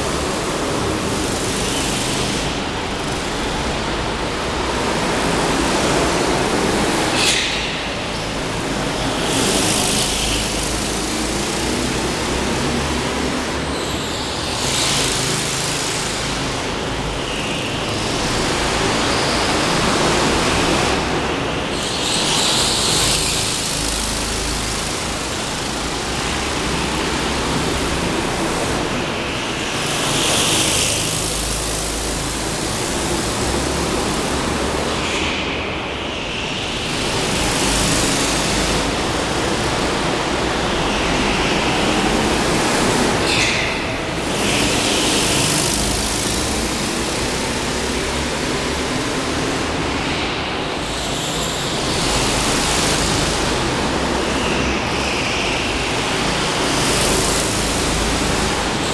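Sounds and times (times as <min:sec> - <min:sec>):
go-kart engines droning: 0:00.0 - 0:58.9.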